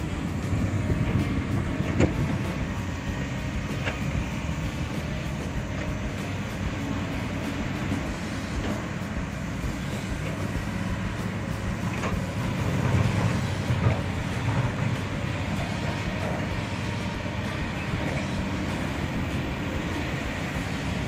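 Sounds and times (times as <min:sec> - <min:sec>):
excavator diesel engines rumbling: 0:00.0 - 0:21.0.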